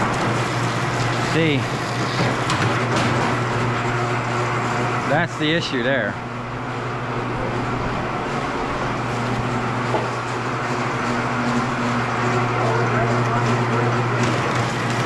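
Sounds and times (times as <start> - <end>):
wire stripping machine humming: 0.0 - 15.0.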